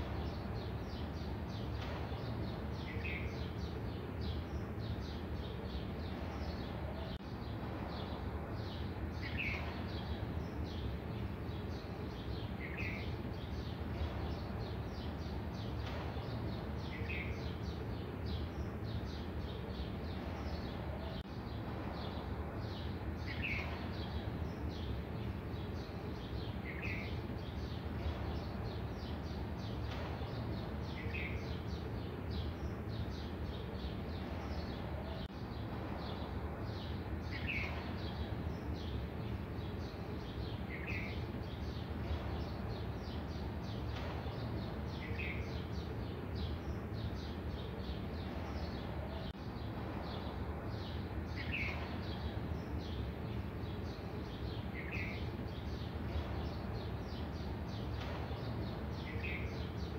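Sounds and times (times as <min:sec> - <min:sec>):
birds chirping: 0:00.0 - 0:59.9
low background noise: 0:00.0 - 0:59.9.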